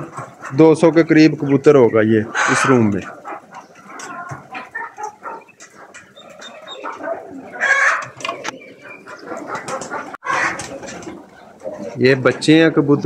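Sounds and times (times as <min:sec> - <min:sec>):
hens clucking: 0:00.0 - 0:13.0
pigeons cooing: 0:00.0 - 0:13.0.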